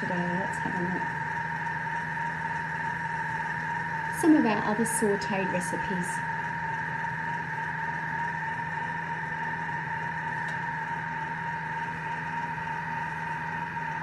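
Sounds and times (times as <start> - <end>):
kitchen appliance motor humming: 0.0 - 14.0.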